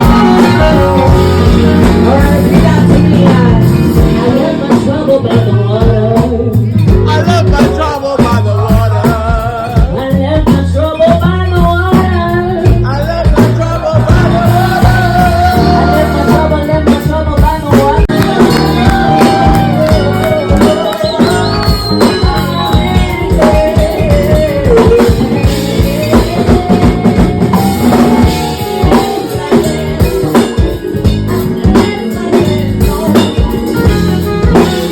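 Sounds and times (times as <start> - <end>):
drum kit: 0.0 - 34.9
guitar: 0.0 - 34.9
person singing: 0.0 - 34.9.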